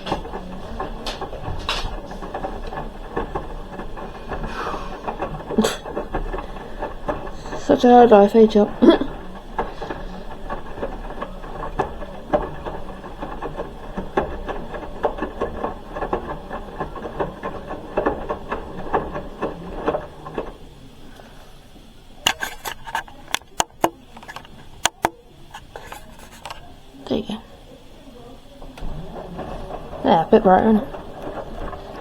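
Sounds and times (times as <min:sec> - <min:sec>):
washing machine drum knocking: 0:00.0 - 0:21.4, 0:22.1 - 0:27.2, 0:28.7 - 0:32.0.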